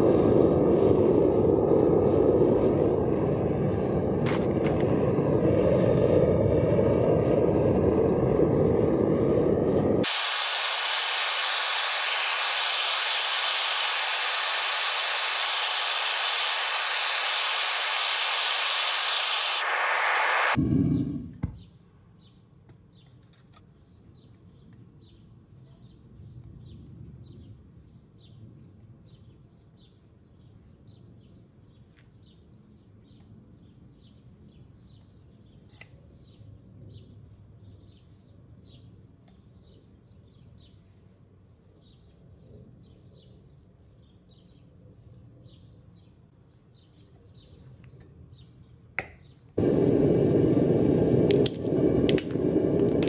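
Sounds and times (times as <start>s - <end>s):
faint outdoor rumble: 0.0s - 23.1s, 23.7s - 53.0s.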